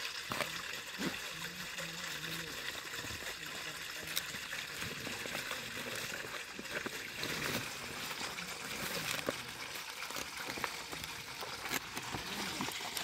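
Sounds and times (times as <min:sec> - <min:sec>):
water trickling over stones: 0:00.0 - 0:13.0.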